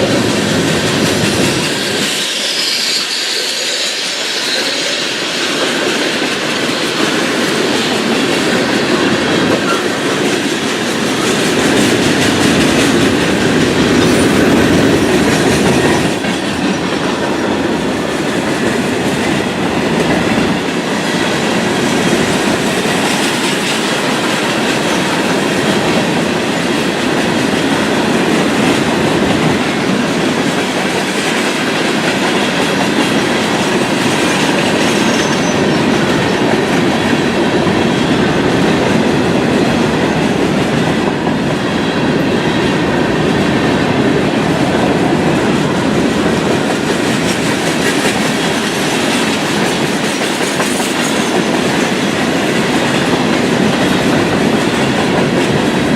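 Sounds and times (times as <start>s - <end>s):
freight train cars rumbling past: 0.0s - 55.9s
wheels clattering on rail: 0.0s - 55.9s.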